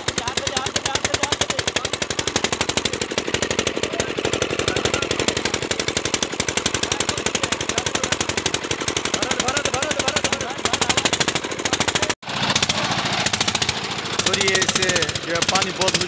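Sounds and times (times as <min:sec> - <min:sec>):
water pump engine running: 0:00.0 - 0:16.0.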